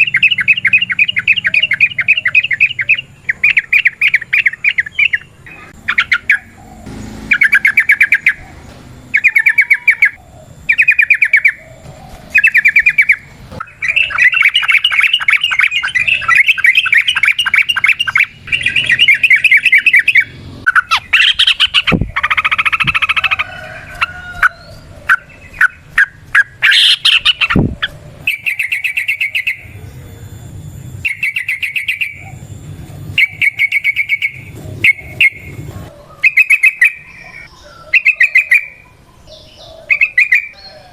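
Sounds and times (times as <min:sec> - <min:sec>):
bird chattering trills: 0:00.0 - 0:40.9.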